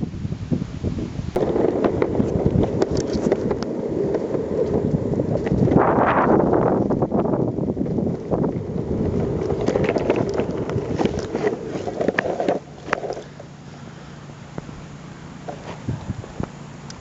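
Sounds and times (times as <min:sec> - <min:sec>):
skateboard wheels rolling on pavement: 0:00.0 - 0:17.0.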